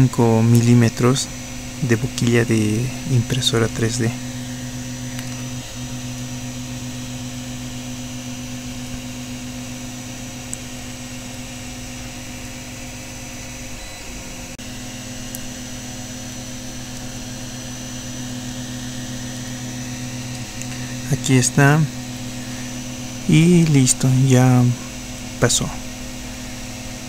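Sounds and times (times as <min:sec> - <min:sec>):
low motor hum with hiss: 0:00.0 - 0:27.0.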